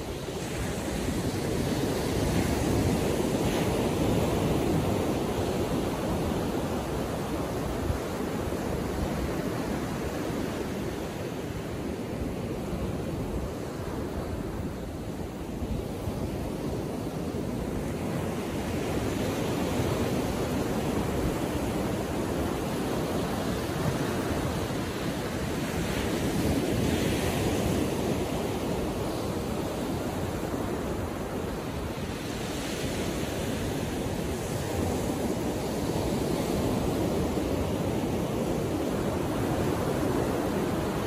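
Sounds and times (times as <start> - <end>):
small waves breaking on a beach: 0.0 - 41.0.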